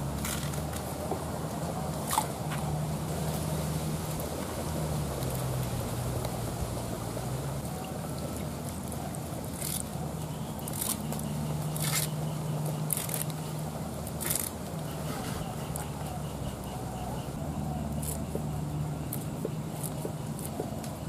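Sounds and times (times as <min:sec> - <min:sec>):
stems swished in water: 0:00.0 - 0:21.0.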